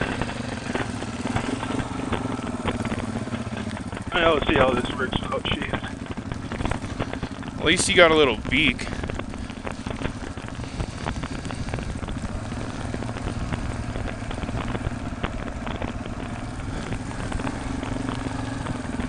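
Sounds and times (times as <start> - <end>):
icy snow ticking: 0.0 - 19.0
motorcycle engine running: 0.0 - 19.0.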